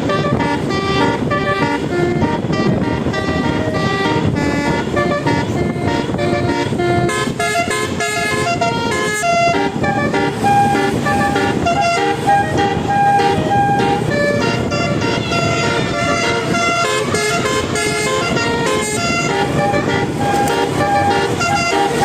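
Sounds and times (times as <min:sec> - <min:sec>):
bus multi-tone horn tooting: 0:00.0 - 0:22.0
steady engine rumble: 0:00.0 - 0:22.0.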